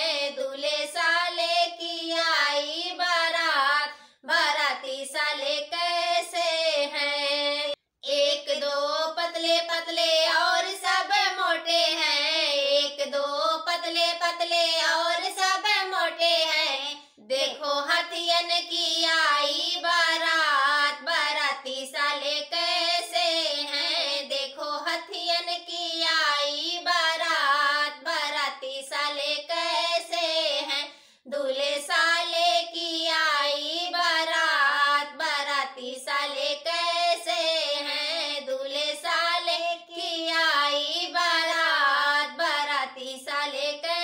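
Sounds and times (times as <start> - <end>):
two women singing folk song: 0.0 - 44.0.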